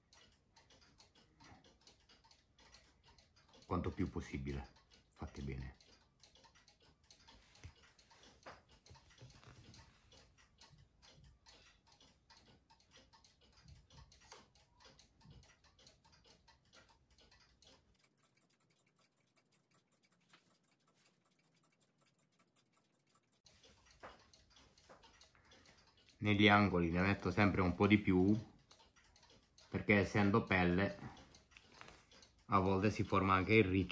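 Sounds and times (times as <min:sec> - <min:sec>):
faint clock ticking: 0:00.0 - 0:33.9.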